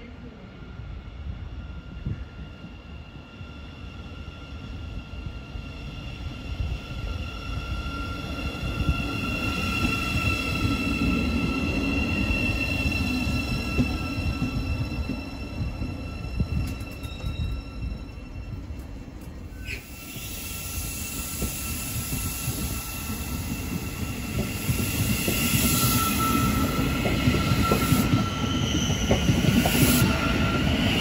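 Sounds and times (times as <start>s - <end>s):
electric train whine: 0.0s - 31.0s
train wheels rumbling: 4.0s - 31.0s.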